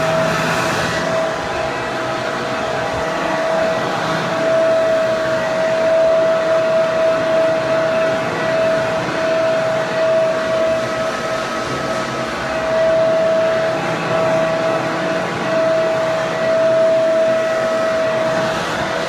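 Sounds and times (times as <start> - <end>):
hair dryer blowing air: 0.0 - 19.0
hair dryer motor whine: 0.0 - 19.0.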